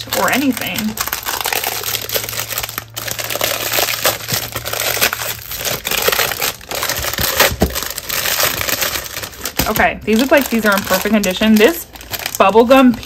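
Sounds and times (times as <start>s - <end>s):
paper envelopes rustling: 0.0s - 13.0s.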